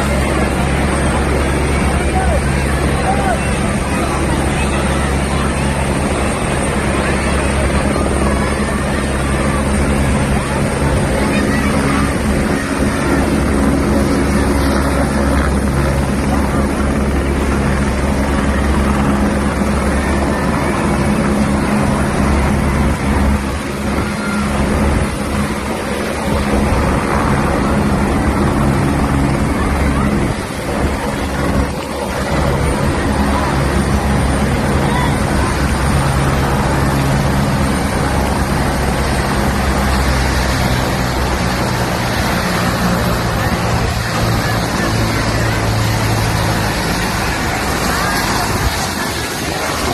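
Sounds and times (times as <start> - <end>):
helicopter rotor and engine: 0.0 - 49.9.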